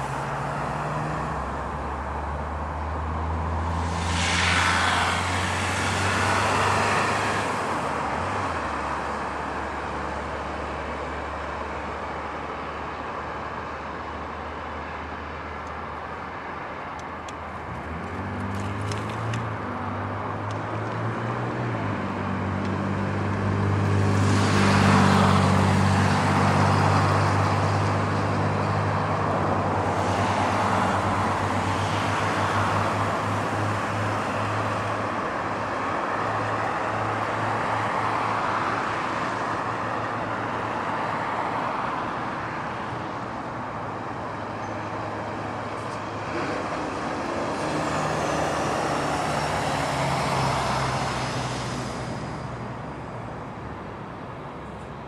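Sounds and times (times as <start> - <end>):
road traffic noise: 0.0 - 55.0
vehicle engine hum: 0.0 - 55.0.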